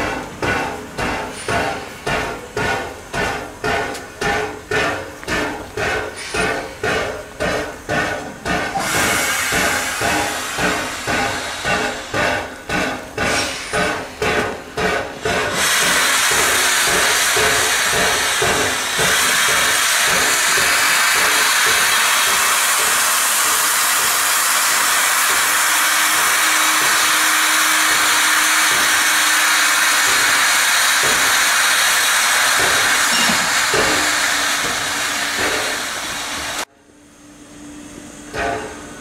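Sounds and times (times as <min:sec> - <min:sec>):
steam locomotive hissing steam: 0:00.0 - 0:36.7.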